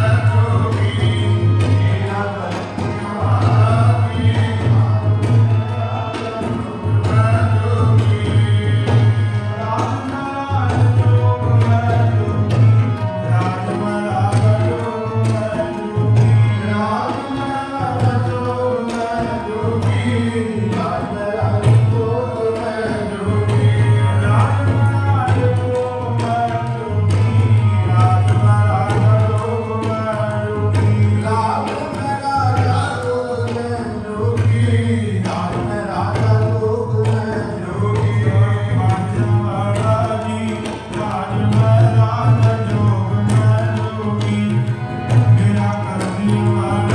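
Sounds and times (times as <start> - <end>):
tabla rhythm: 0.0 - 46.9.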